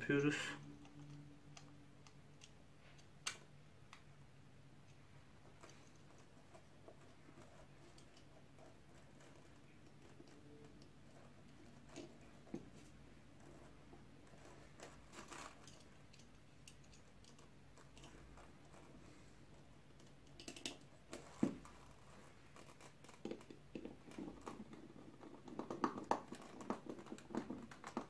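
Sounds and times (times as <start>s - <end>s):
faint clicks and scrapes: 0.6s - 4.1s, 4.8s - 28.0s.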